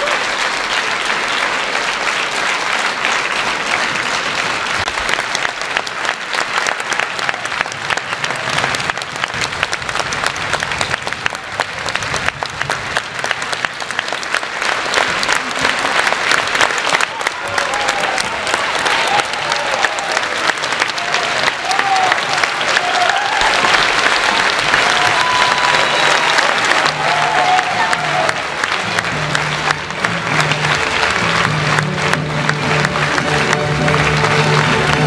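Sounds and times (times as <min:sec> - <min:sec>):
audience applause: 0:00.0 - 0:35.0
people clapping close by: 0:00.0 - 0:35.0.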